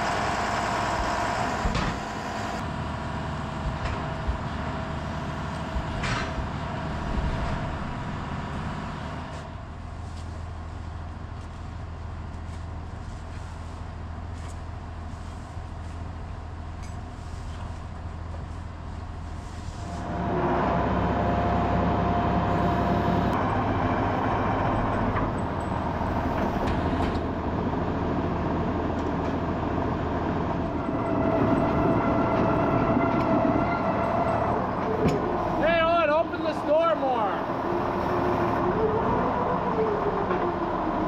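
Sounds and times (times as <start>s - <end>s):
farm machine engine running: 0.0s - 41.0s.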